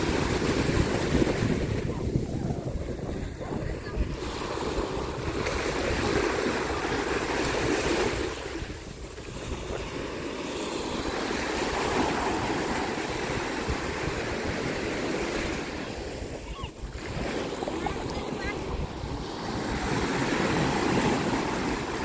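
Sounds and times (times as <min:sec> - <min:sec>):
small waves washing on sand: 0:00.0 - 0:22.0
wind rumble on microphone: 0:00.0 - 0:22.0.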